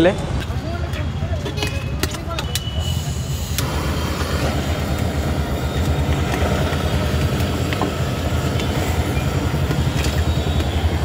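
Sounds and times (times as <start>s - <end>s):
street background rumble: 0.0s - 11.0s.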